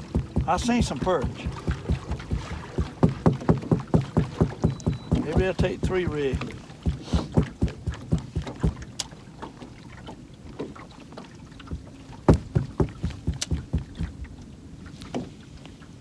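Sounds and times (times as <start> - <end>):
knocks and taps in boat: 0.0 - 15.8.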